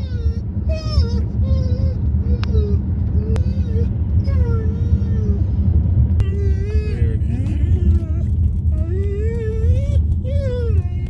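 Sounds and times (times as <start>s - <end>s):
dog whining and whimpering: 0.0s - 5.6s, 6.2s - 11.0s
low rumble of moving car: 0.0s - 11.0s.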